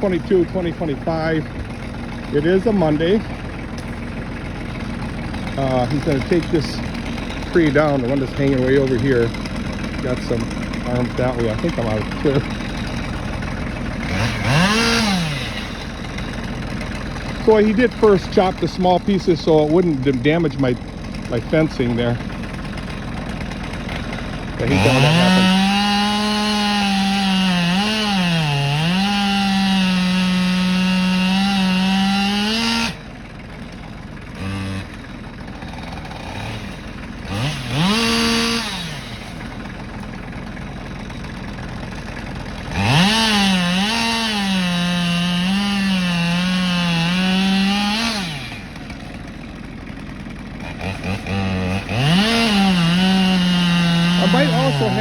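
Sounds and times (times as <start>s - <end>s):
chainsaw cutting and revving: 0.0s - 55.0s.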